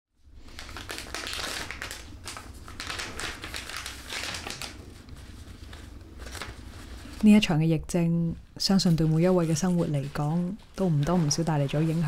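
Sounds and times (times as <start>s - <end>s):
low room hum: 0.2s - 12.0s
crinkly packaging rustling: 0.4s - 7.5s, 8.8s - 12.0s.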